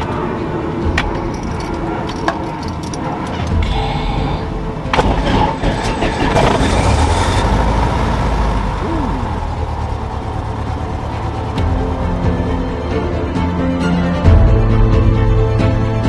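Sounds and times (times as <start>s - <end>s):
aircraft engine starting and idling: 0.0s - 16.0s.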